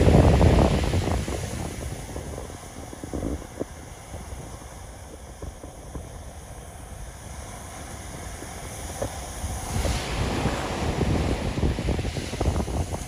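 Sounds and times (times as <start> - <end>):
ocean surf: 0.0 - 13.0
wave hissing up the sand: 0.0 - 13.0
wind rumbling on microphone: 0.0 - 13.0.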